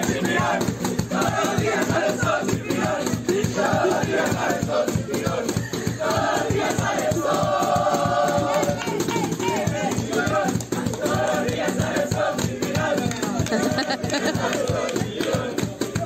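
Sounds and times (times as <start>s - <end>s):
percussion beat: 0.0s - 16.0s
young people singing in chorus: 0.0s - 16.0s.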